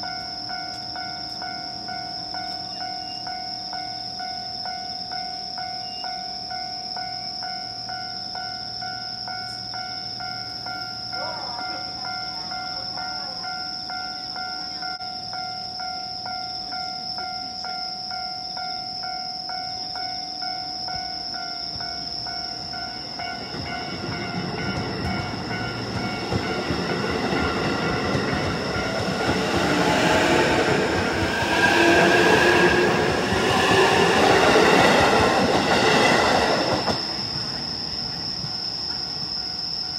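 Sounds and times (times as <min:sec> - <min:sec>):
electric train passing: 0:00.0 - 0:39.9
level crossing warning bell: 0:00.0 - 0:39.9.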